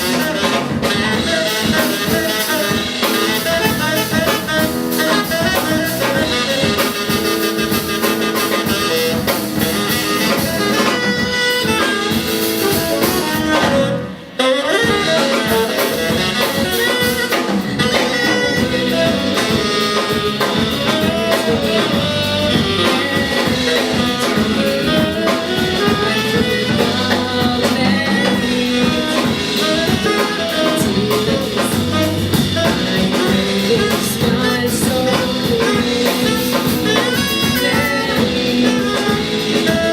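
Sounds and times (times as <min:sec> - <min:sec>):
bass: 0:00.0 - 0:39.9
drum kit: 0:00.0 - 0:39.9
piano: 0:00.0 - 0:39.9
tenor saxophone: 0:00.0 - 0:39.9.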